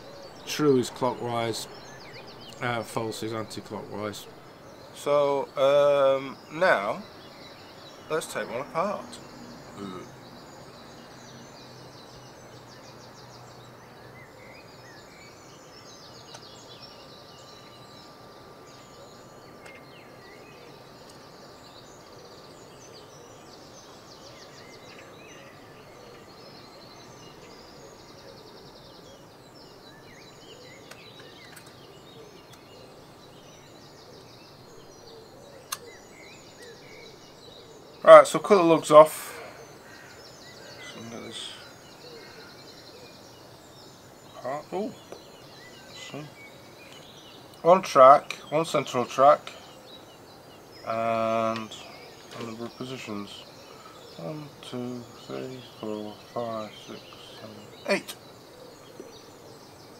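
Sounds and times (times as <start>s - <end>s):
birds chirping faintly: 0.0s - 59.9s.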